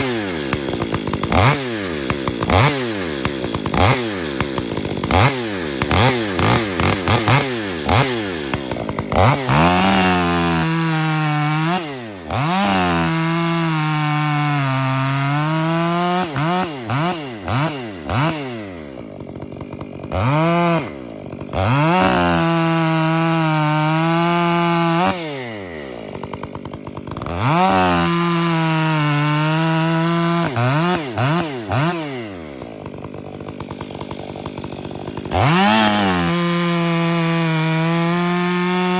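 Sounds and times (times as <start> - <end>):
chainsaw cutting wood: 0.0 - 38.9
chainsaw revving: 0.0 - 38.9.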